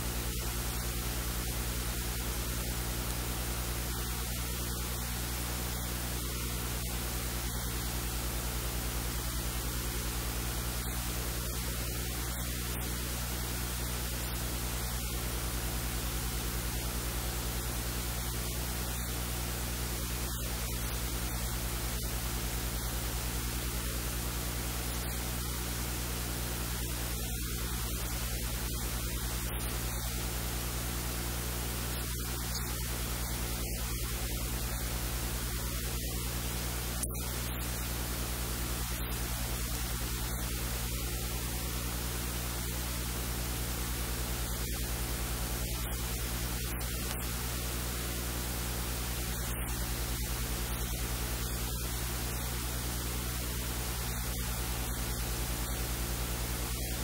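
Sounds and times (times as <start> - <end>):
electrical mains hum: 0.0 - 57.0
static hiss: 0.0 - 57.0.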